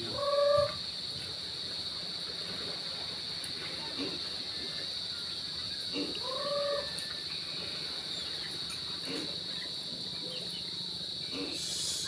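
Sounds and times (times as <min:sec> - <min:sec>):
steady high-pitched hiss: 0:00.0 - 0:12.0.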